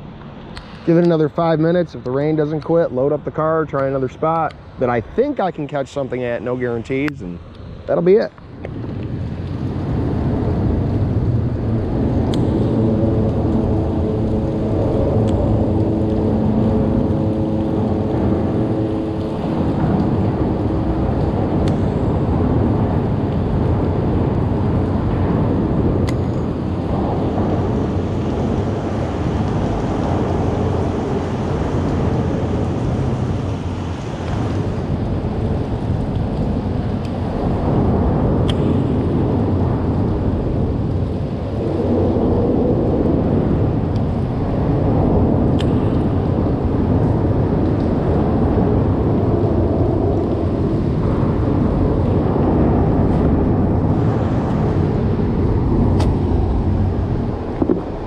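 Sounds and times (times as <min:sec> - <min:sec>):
rain: 0:00.0 - 0:58.0
wind buffeting microphone: 0:00.0 - 0:58.0.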